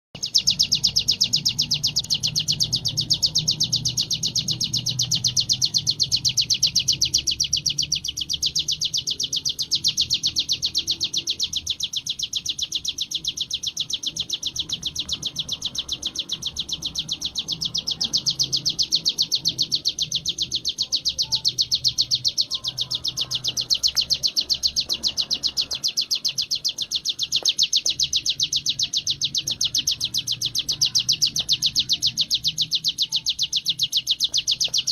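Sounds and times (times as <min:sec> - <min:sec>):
bird rattling trill song: 0:00.1 - 0:34.9.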